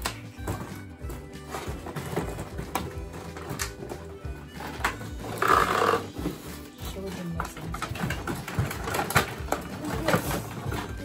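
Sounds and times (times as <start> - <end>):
background music: 0.0 - 11.0
cardboard and plastic packaging rustling: 0.0 - 11.0.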